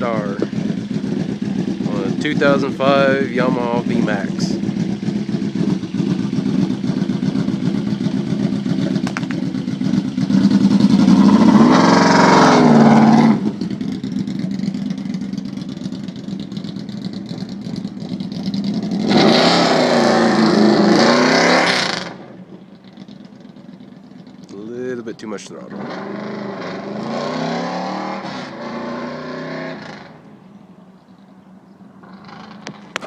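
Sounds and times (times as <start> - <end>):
motorcycle engine revving: 0.0 - 30.2, 32.0 - 33.0.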